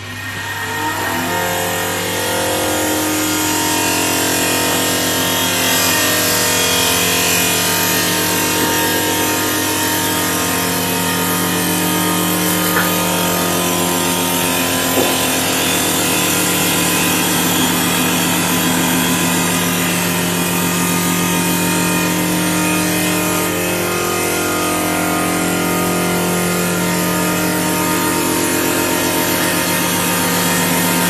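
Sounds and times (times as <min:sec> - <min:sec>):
lathe motor humming: 0:00.0 - 0:31.0.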